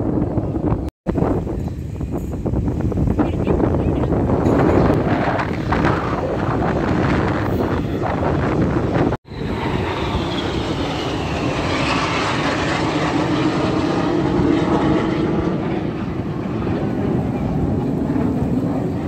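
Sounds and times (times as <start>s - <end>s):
jets roaring past: 2.9s - 19.0s.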